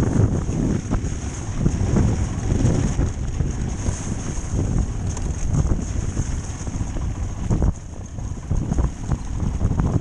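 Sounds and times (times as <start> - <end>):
motorcycle engine running low: 0.0 - 10.0
wind rushing over microphone: 0.0 - 10.0.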